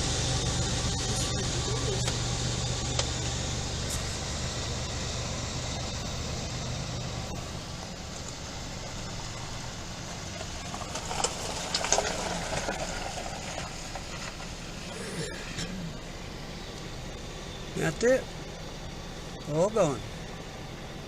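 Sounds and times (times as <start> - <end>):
freight cars rumbling on rails: 0.0 - 21.0.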